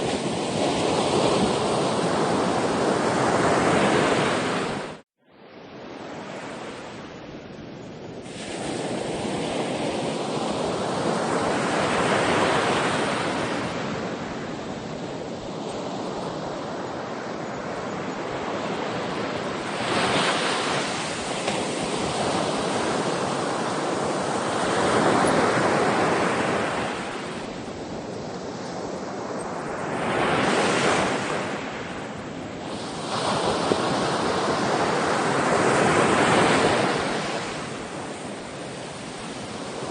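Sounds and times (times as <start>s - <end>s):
ocean waves breaking: 0.0s - 5.0s, 8.2s - 39.9s.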